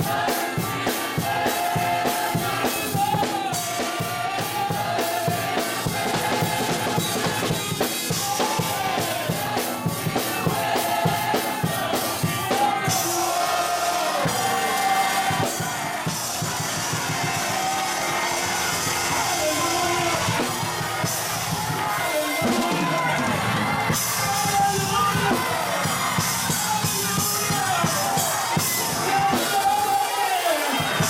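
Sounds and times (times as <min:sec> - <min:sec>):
choir singing gospel: 0:00.0 - 0:31.0
congregation clapping: 0:00.0 - 0:31.0
drum kit: 0:00.0 - 0:31.0.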